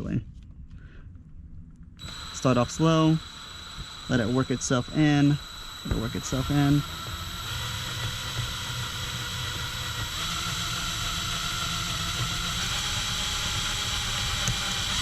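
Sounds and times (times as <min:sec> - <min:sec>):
electric drill whining: 0:02.0 - 0:15.0.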